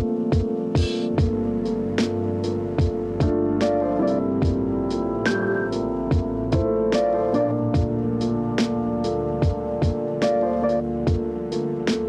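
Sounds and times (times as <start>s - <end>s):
music with chords and beat: 0.0s - 12.0s.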